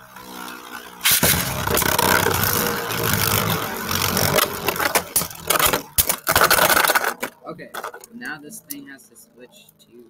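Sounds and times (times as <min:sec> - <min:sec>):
spinning tops whirring in plastic stadium: 0:00.0 - 0:08.9.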